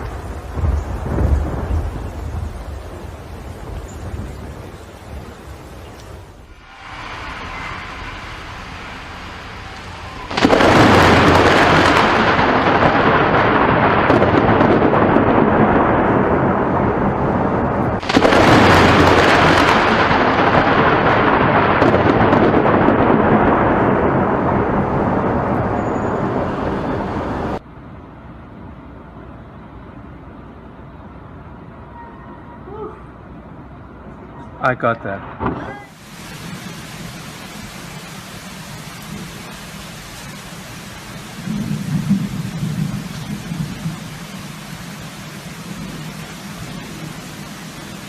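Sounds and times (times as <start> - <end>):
thunderclaps rumbling: 0.0 - 27.6, 35.2 - 48.0.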